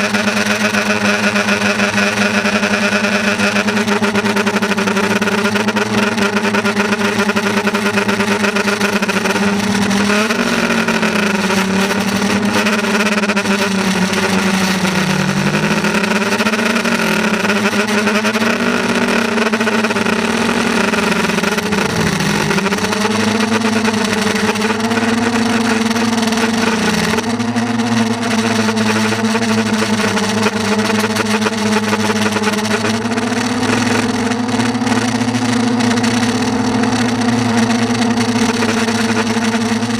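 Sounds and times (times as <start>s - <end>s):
model aircraft propeller hum: 0.0s - 39.9s.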